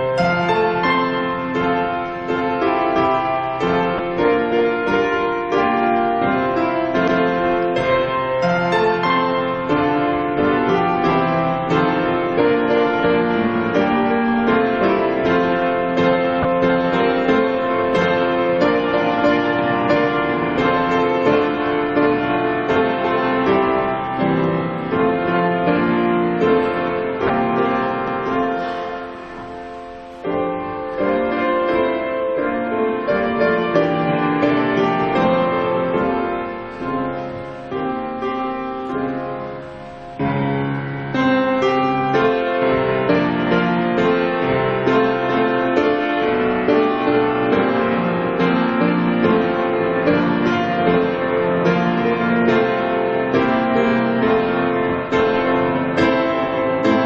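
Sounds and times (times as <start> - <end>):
piano playing slow chords: 0.0 - 57.0.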